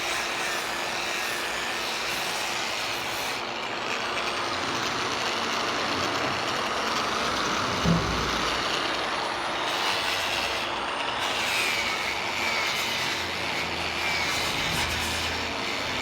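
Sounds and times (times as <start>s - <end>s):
power tool working wood: 0.0s - 16.0s.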